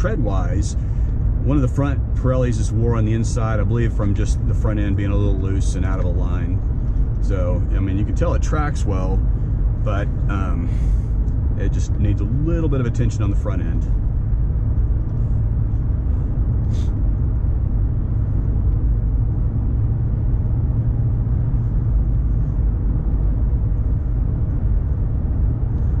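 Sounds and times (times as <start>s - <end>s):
car engine rumble: 0.0s - 26.0s
road noise: 0.0s - 26.0s.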